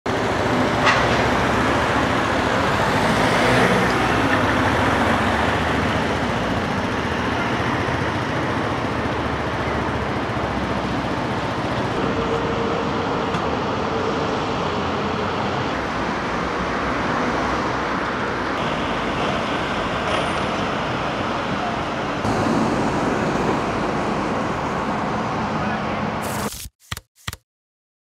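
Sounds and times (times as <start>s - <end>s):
road traffic noise: 0.1s - 27.4s.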